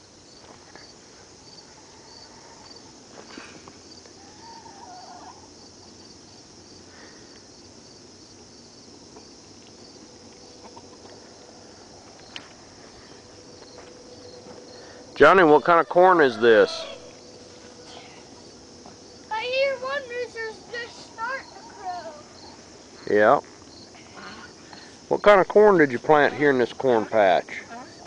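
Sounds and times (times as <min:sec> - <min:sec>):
crickets chirping: 0:00.0 - 0:28.0
high insect hiss: 0:00.0 - 0:28.0.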